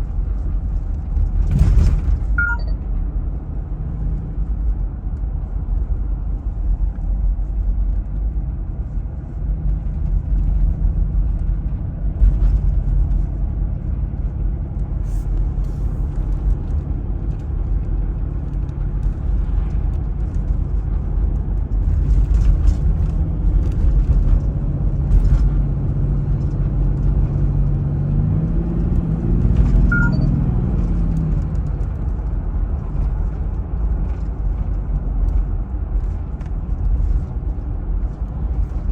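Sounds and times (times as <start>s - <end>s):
diesel engine and road noise: 0.0s - 38.9s.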